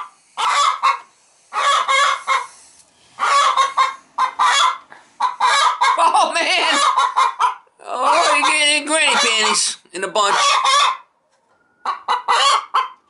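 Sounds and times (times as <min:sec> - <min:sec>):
hen squawking: 0:00.0 - 0:11.1.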